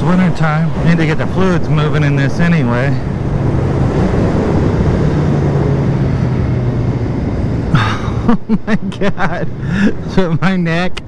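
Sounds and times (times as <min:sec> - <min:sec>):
motorcycle engine drone: 0:00.0 - 0:10.4
wind rushing around helmet: 0:00.0 - 0:10.4.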